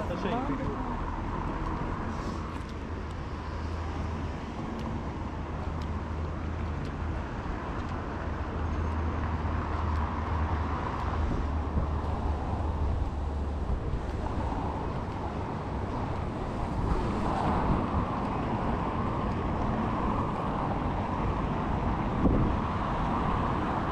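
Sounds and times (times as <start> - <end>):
distant road traffic rumble: 0.0 - 23.9.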